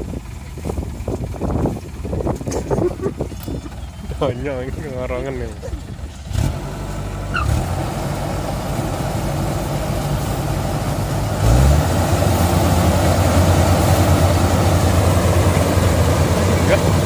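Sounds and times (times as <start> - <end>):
combine harvester engine revving: 0.0 - 17.0.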